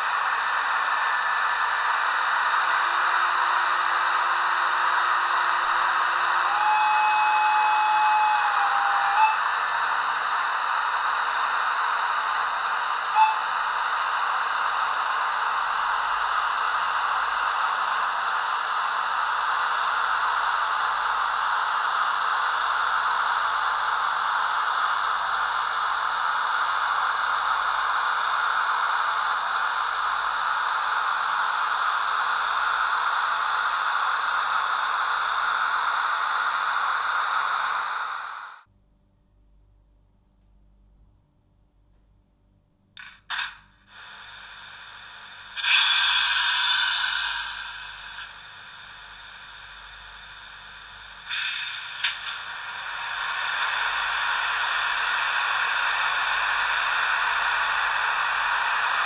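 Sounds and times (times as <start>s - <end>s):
model train locomotive hissing: 0.0s - 38.7s, 43.0s - 59.0s.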